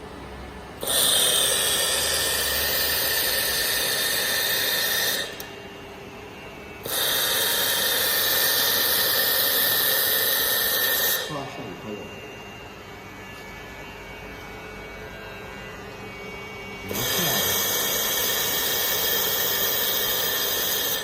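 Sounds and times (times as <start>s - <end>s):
laser welder hissing with whine: 0.8s - 5.6s, 6.6s - 21.0s.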